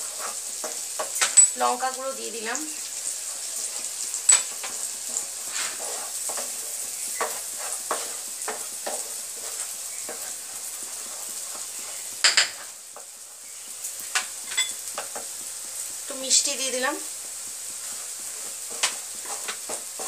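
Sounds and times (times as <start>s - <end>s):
wooden spatula scraping pan: 0.0s - 1.8s, 3.0s - 20.0s
oil sizzling: 0.0s - 20.0s.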